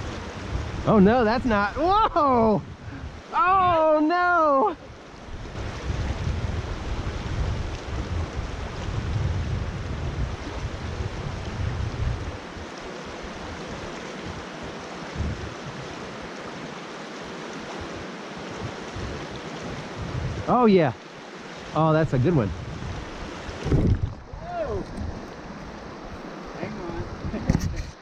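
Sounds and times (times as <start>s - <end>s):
wind buffeting microphone: 0.0s - 4.0s, 4.8s - 16.2s, 17.7s - 20.6s, 22.0s - 28.0s
river water rushing: 0.0s - 27.4s.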